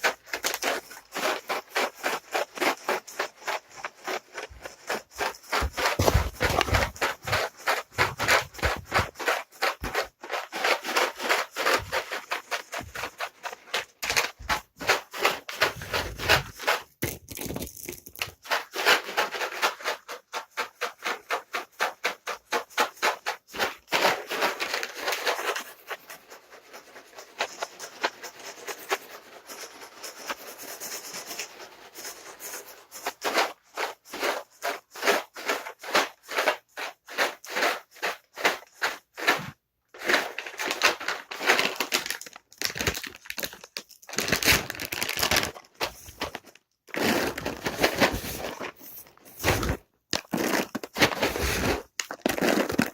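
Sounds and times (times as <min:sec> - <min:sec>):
cat treats rattling in container: 0:00.0 - 0:52.9.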